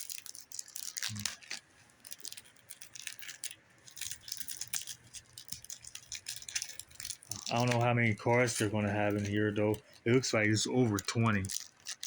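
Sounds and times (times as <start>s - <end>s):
cardboard and wrapper rustling: 0.0s - 12.0s
small clicks and ticks: 0.0s - 12.0s.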